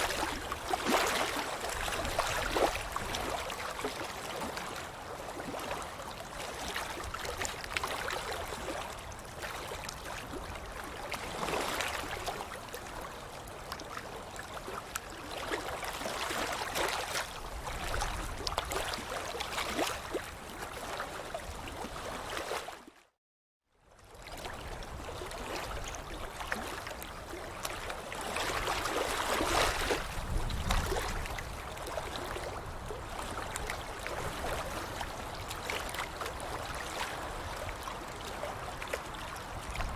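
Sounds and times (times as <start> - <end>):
water splashing and sloshing: 0.0 - 23.2, 24.0 - 39.9.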